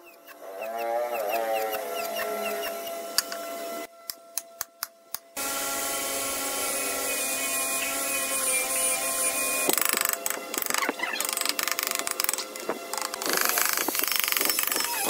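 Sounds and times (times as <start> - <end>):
rotary tool whining against wood: 0.0 - 3.9, 5.4 - 15.0.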